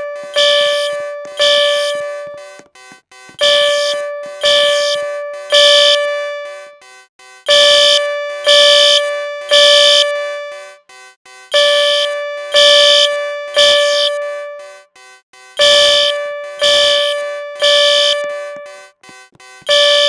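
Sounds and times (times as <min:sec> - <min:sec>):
fire alarm tones: 0:00.0 - 0:06.9, 0:07.5 - 0:10.8, 0:11.5 - 0:14.9, 0:15.5 - 0:20.0.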